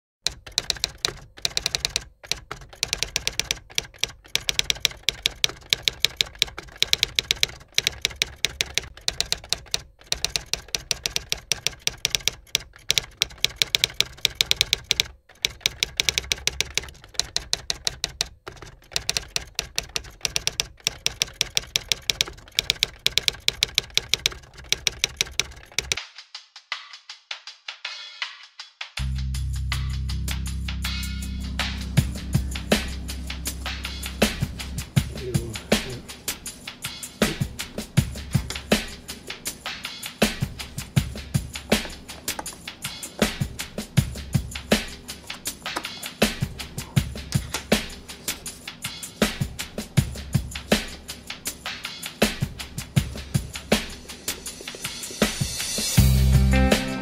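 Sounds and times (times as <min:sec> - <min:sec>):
rapid clicking like typing: 0:00.2 - 0:26.0, 0:33.7 - 0:56.0.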